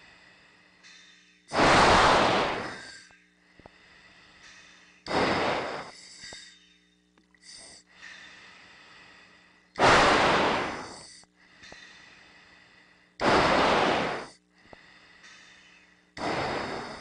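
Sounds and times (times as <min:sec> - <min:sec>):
faint steady low hum: 0:00.0 - 0:17.0
breathing through oxygen mask: 0:01.5 - 0:06.5, 0:07.4 - 0:17.0.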